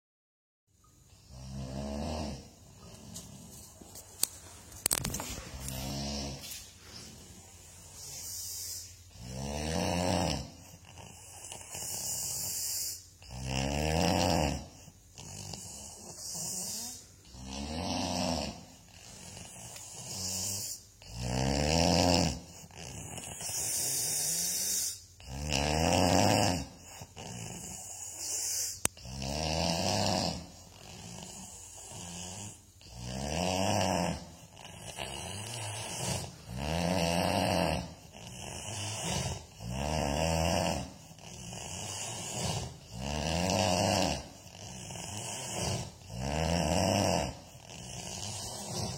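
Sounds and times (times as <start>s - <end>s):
person snoring: 1.1s - 3.5s, 4.9s - 48.9s.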